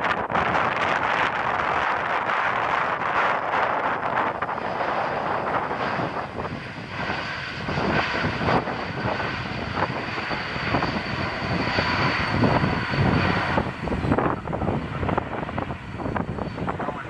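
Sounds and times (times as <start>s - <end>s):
airliner engines running: 0.0s - 17.0s
wind buffeting microphone: 0.0s - 17.0s.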